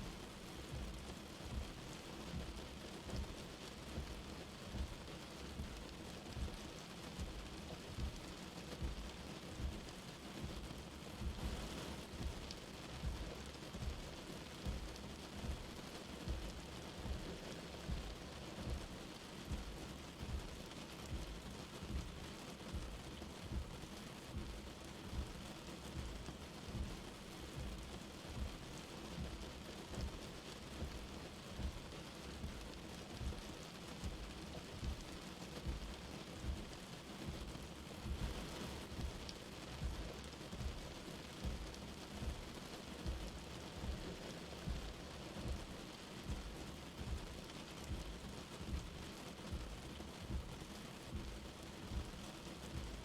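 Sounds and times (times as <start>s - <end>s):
light rain falling: 0.0s - 53.0s
soft low thumps: 0.1s - 3.4s, 4.0s - 6.6s, 7.2s - 53.0s.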